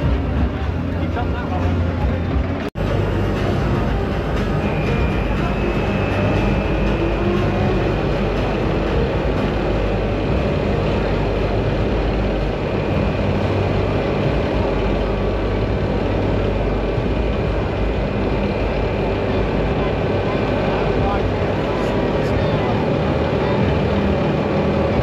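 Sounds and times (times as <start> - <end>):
crowd chatter: 0.0 - 25.0
roller coaster lift hill drone: 0.0 - 25.0.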